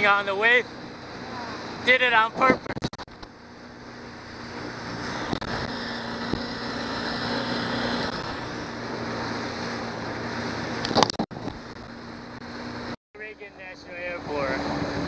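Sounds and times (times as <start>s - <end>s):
outboard motor running: 0.0s - 15.0s
rushing wind and water: 0.0s - 15.0s.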